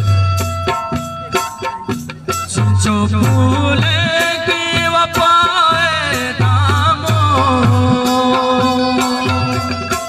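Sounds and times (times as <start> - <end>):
quick beat of short strikes: 0.0 - 10.0.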